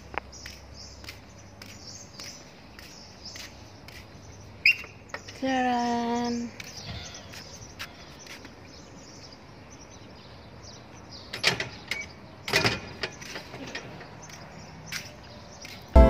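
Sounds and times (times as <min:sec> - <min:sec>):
faint outdoor background noise: 0:00.0 - 0:16.0.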